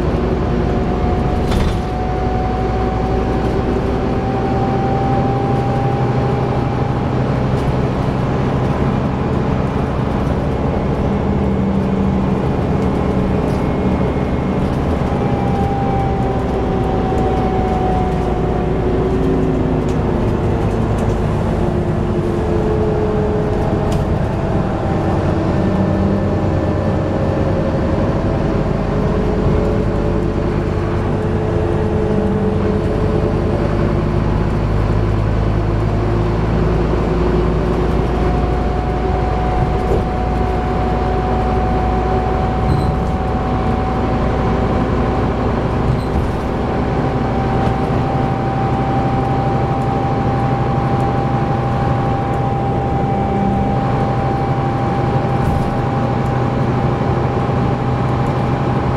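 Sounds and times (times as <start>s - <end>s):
bus diesel engine under load: 0.0s - 58.9s.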